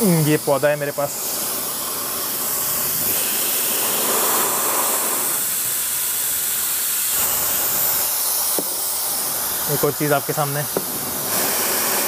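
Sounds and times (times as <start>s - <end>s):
fan rushing air: 0.0s - 12.0s.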